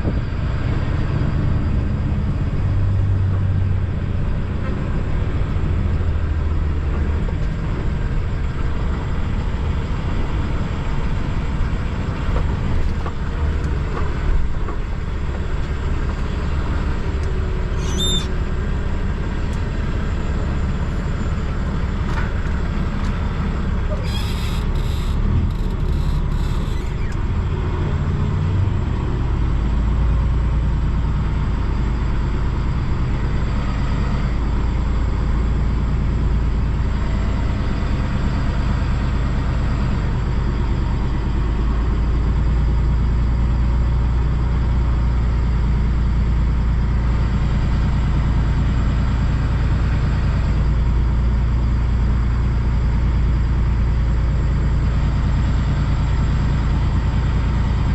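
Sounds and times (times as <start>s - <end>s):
diesel truck engine droning: 0.0s - 57.9s.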